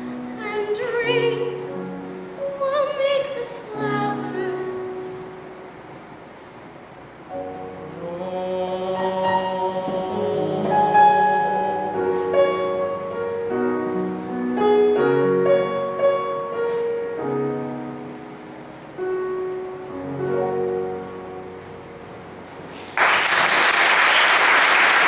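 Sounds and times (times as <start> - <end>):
slow piano chords: 0.0 - 23.3.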